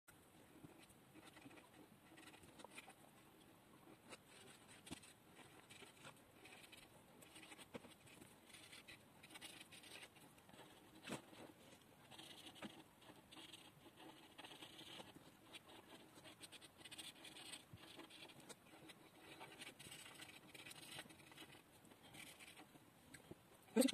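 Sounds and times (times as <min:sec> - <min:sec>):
marker scratching on paper: 0:00.6 - 0:03.0, 0:03.8 - 0:22.7.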